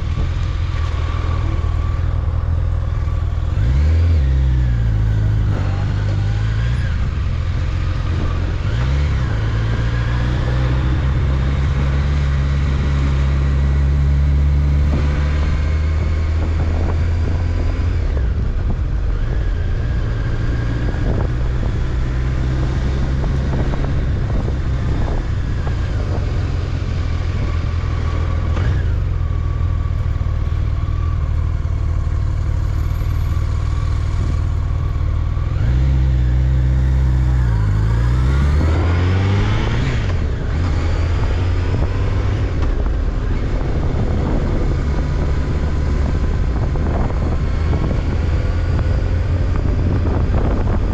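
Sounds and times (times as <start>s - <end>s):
motorcycle engine running: 0.0s - 50.9s
wind and road noise: 0.0s - 50.9s.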